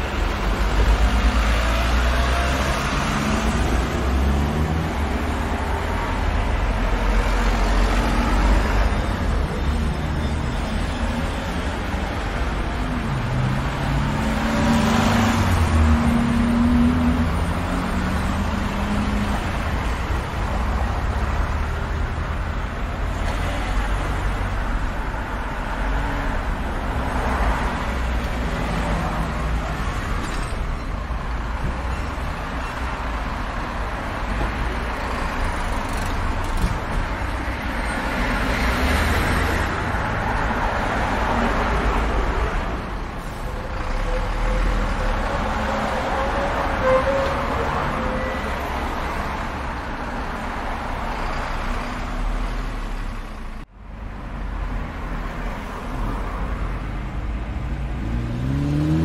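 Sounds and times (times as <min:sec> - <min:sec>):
cars passing: 0:00.0 - 0:59.0
traffic rumble: 0:00.0 - 0:59.0.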